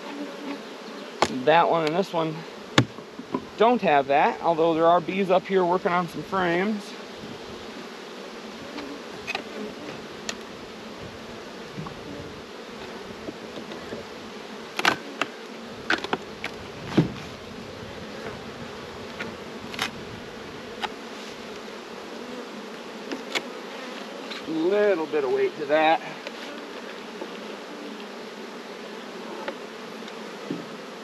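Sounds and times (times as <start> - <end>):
honeybees humming: 0.0 - 31.0.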